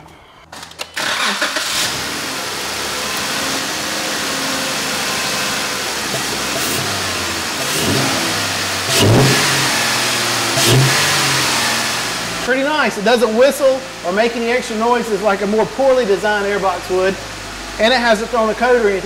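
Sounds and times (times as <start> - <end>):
car engine starting and idling: 0.1 - 19.0
car engine revving: 1.0 - 19.0.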